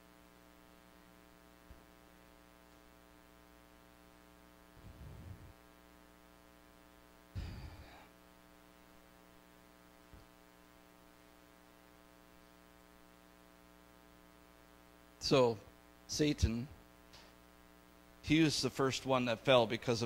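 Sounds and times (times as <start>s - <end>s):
faint electrical mains hum: 0.0s - 20.0s.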